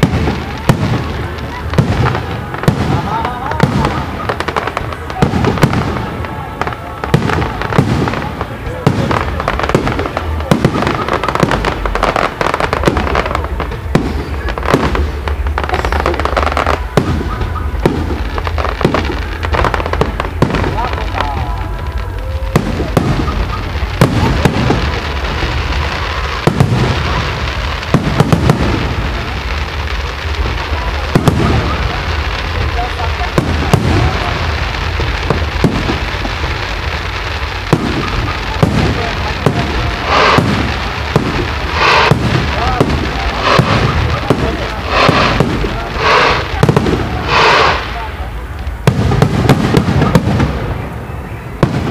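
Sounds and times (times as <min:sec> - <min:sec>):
background noise: 0:00.0 - 0:51.9
fireworks bangs and crackling: 0:00.0 - 0:51.9.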